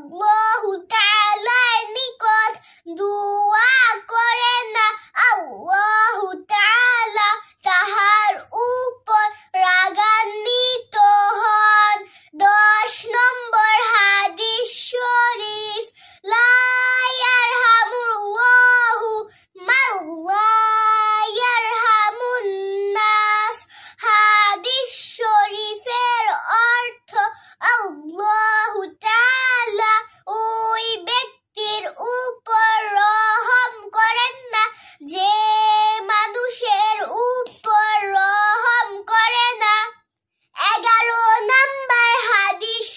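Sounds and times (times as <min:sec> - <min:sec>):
girl singing unaccompanied: 0:00.0 - 0:42.9.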